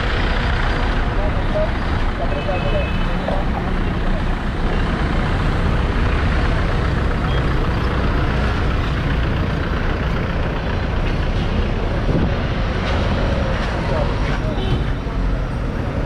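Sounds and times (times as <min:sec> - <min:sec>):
car engines in traffic: 0:00.0 - 0:16.0.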